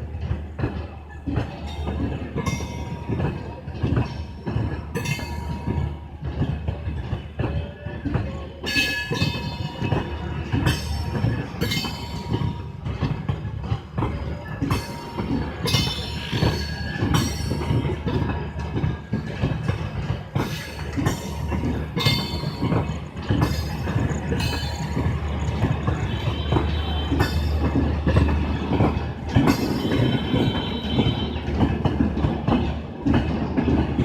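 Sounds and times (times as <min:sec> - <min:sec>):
low rumble of rolling coaches: 0:00.0 - 0:34.0
wheels clattering on rail joints: 0:00.0 - 0:34.0
train wheels screeching: 0:00.2 - 0:34.0.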